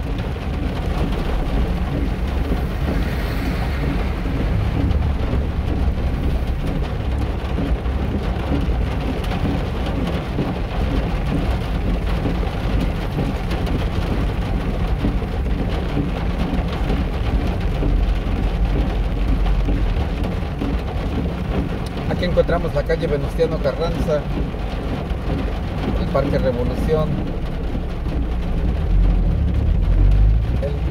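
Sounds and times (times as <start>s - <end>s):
low rumble: 0.0s - 30.9s
rain pattering: 0.0s - 30.9s.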